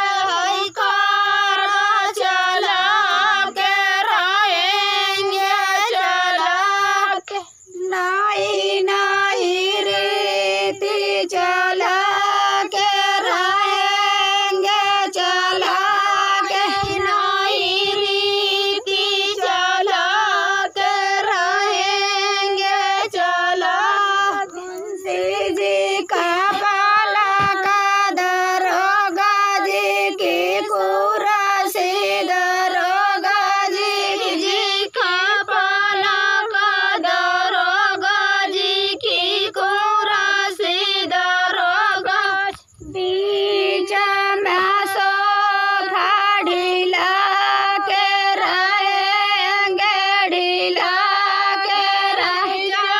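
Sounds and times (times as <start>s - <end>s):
women singing folk song: 0.0s - 52.9s.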